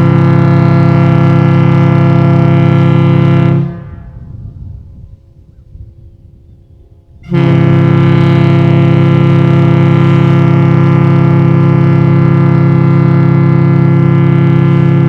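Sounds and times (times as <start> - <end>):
deep ship horn blast: 0.0 - 5.0, 7.2 - 15.0.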